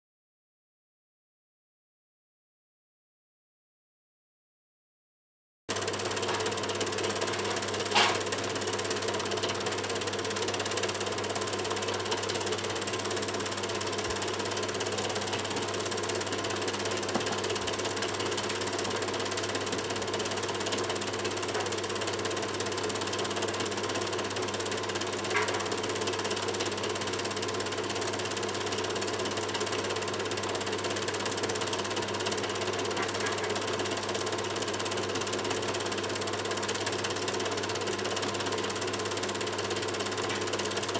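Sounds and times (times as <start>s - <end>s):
film projector clattering: 5.7s - 40.9s.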